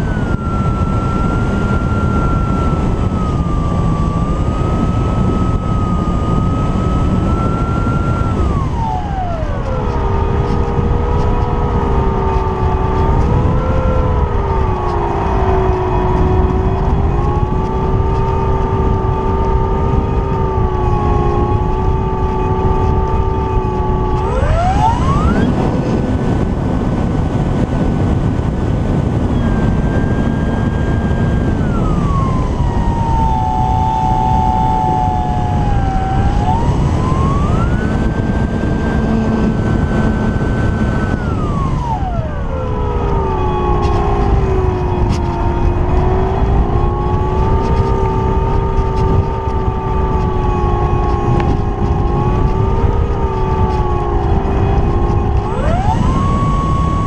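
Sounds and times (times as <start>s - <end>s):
electric motor and propeller: 0.0s - 57.0s
wind rushing: 0.0s - 57.0s.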